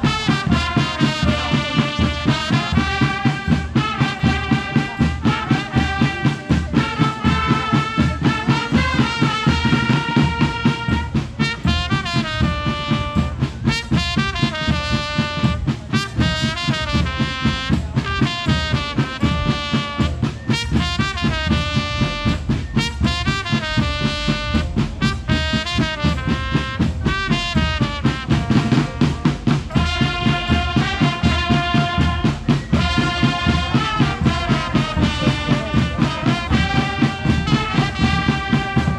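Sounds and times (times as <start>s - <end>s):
brass melody: 0.0s - 38.9s
steady drum beat: 0.0s - 38.9s.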